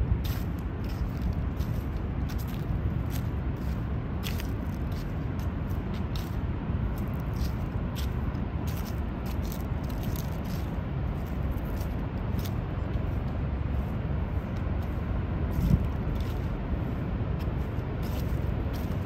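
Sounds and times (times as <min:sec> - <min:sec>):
light footsteps: 0:00.2 - 0:19.0.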